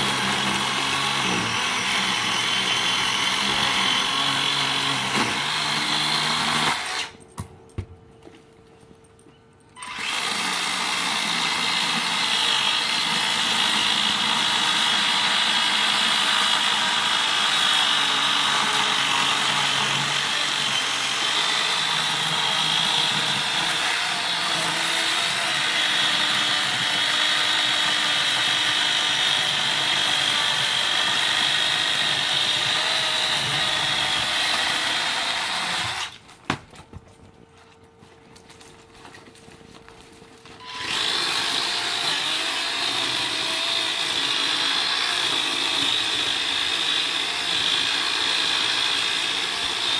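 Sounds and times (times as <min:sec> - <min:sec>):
cordless chainsaw whining: 0:00.0 - 0:07.2, 0:09.8 - 0:36.2, 0:40.6 - 0:49.9.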